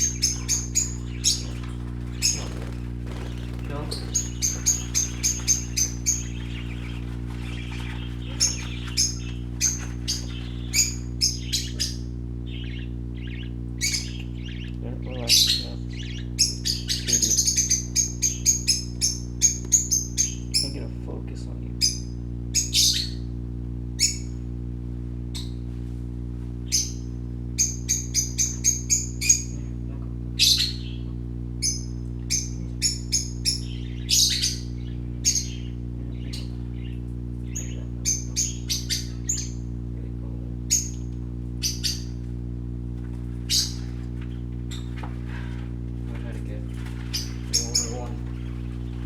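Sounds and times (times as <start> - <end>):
parakeets chirping: 0.0 - 23.3, 24.0 - 24.5, 25.3 - 25.7, 26.6 - 49.0
steady low hum: 0.0 - 49.0.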